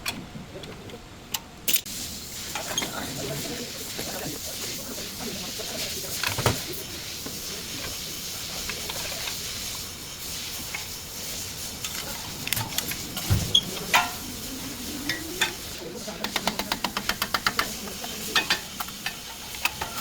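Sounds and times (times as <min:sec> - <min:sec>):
steady hiss: 0:01.7 - 0:20.0.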